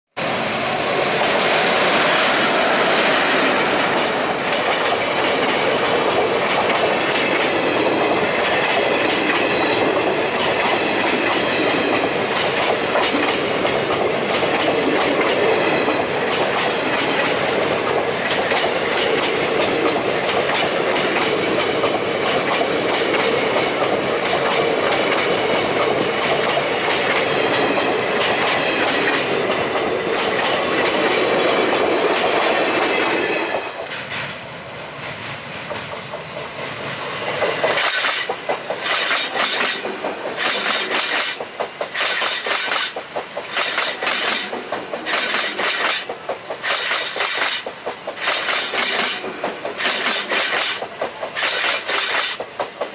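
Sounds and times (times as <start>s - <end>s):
train rumbling over bridge: 0.1s - 52.9s
train wheels clattering over rail joints: 2.0s - 34.4s, 35.0s - 52.9s.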